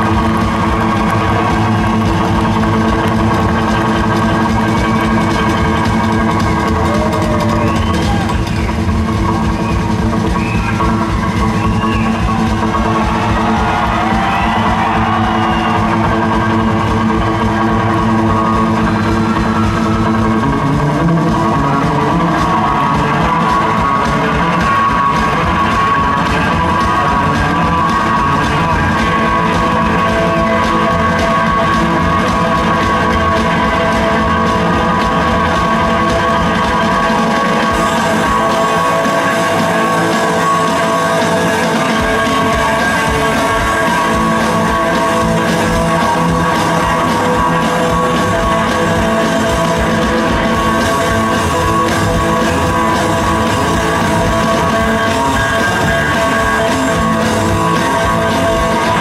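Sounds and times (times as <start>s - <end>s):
drums: 0.0s - 59.0s
electric guitar: 0.0s - 59.0s
slapped upright bass: 0.0s - 59.0s.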